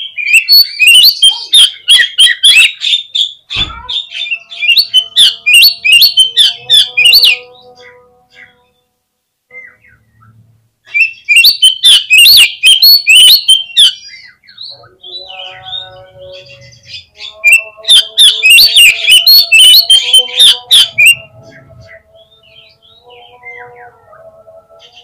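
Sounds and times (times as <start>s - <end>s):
bird singing chirps and whistles: 0.0s - 7.5s, 9.5s - 24.2s.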